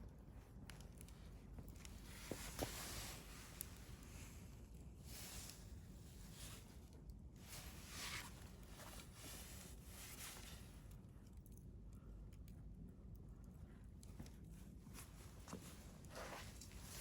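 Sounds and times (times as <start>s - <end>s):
campfire hissing softly: 0.1s - 17.0s.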